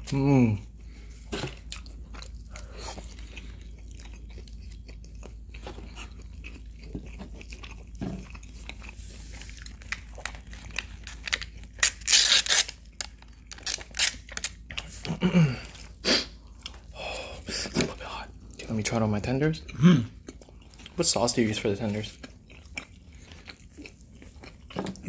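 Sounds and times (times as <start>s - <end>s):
crunching and chewing food: 0.0s - 25.0s.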